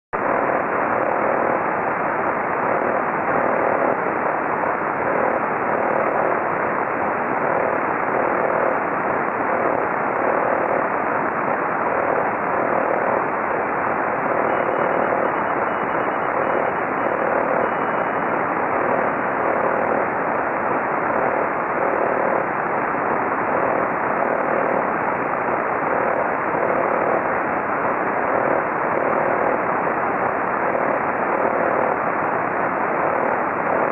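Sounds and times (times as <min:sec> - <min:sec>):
faint pulsing tone: 0:00.2 - 0:33.9
radio static hiss: 0:00.2 - 0:33.9.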